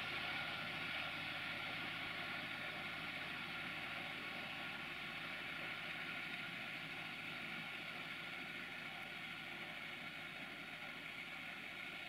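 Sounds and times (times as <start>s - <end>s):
tractor diesel engine running: 0.0s - 9.9s.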